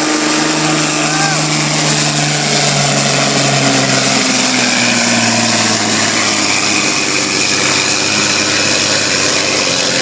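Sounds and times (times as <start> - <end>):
thin high whine: 0.0 - 10.0
truck diesel engine under load: 0.0 - 10.0.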